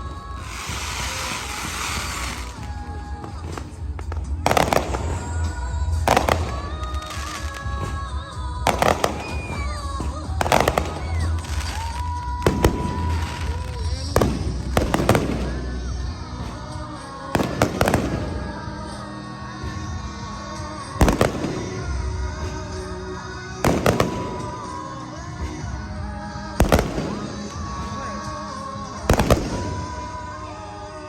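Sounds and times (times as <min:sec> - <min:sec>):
fireworks bangs: 0:00.0 - 0:30.8
music: 0:00.0 - 0:31.0.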